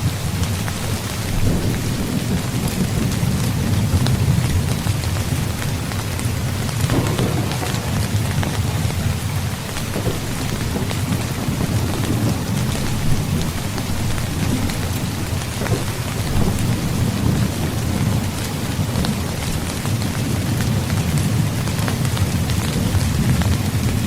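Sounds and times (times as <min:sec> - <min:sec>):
close raindrop hits: 0:00.0 - 0:24.0
heavy rain falling: 0:00.0 - 0:24.0
low rolling thunder: 0:00.0 - 0:24.0.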